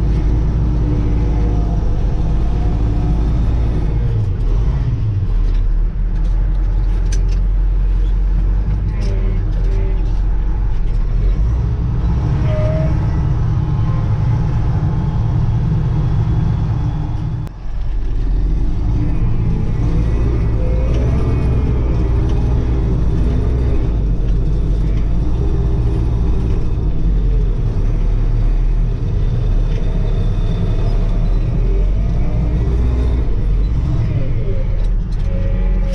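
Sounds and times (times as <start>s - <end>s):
diesel tractor engine droning: 0.0s - 35.9s.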